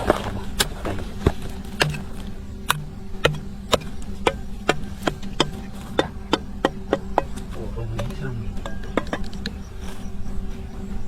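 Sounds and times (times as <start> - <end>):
sharp knocks: 0.0 - 9.6
steady low hum: 0.0 - 11.0.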